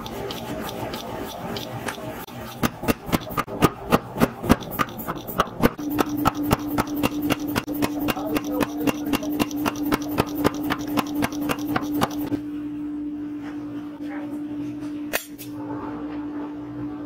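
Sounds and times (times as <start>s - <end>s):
steady hum: 0.0s - 14.6s.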